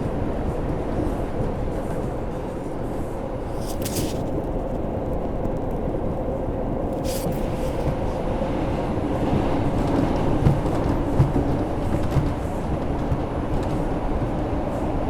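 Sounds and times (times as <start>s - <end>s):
subway wheels and motors rumbling: 0.0s - 15.0s.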